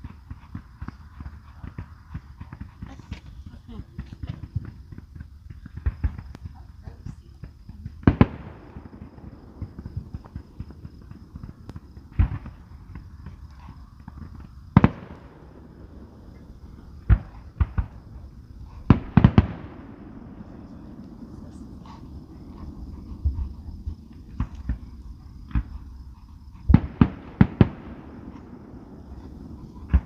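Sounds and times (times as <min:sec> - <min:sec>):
fireworks bangs with rumble: 0:00.0 - 0:30.0.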